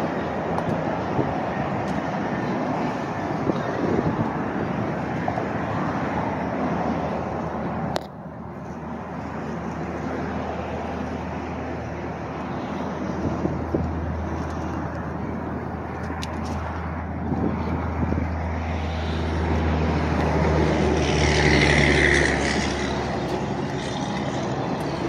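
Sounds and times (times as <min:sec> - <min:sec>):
outdoor rushing noise: 0:00.0 - 0:25.0.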